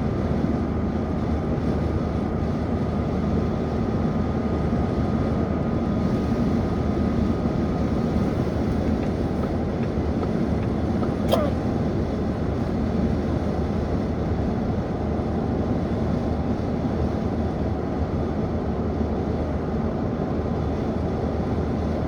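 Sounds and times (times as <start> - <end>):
low rumble of a moving vehicle: 0.0 - 22.0.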